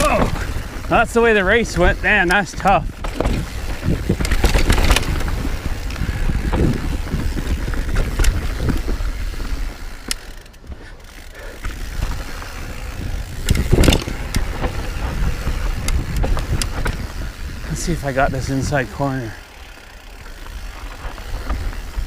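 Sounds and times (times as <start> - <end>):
wind rumbling on microphone: 0.0 - 10.0, 11.6 - 19.4, 20.1 - 22.0
bike knocks and rattles: 0.0 - 22.0
bike tyres rolling on dirt: 0.0 - 22.0.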